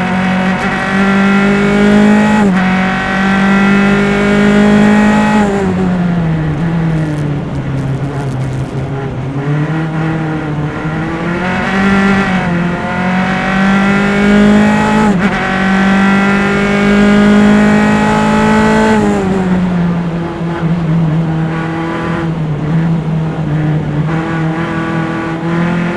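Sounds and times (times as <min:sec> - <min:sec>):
race car engine under load: 0:00.0 - 0:25.9.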